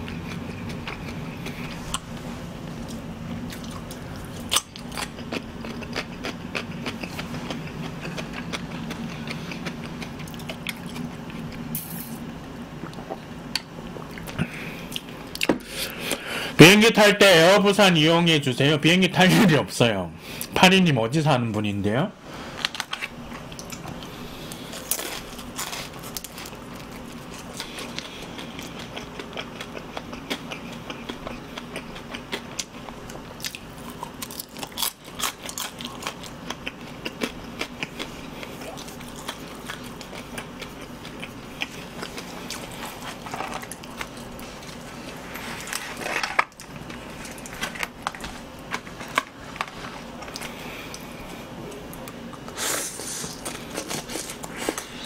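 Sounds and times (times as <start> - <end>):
crunchy biting and chewing: 0.0 - 11.8, 22.7 - 55.0.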